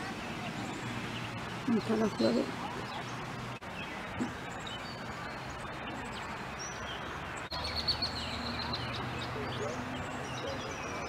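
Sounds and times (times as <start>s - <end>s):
outdoor background hiss: 0.0s - 11.0s
small songbirds chirping: 0.0s - 11.0s.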